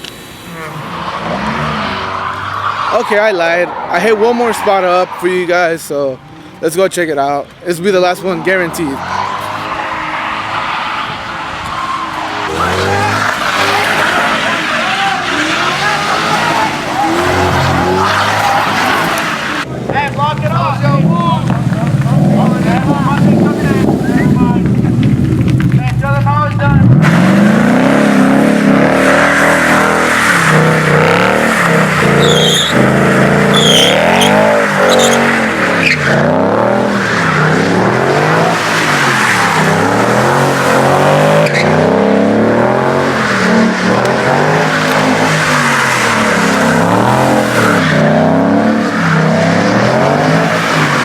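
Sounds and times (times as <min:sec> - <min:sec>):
car engine revving: 0:00.0 - 0:51.0
tyres squealing: 0:00.5 - 0:19.7, 0:28.6 - 0:51.0.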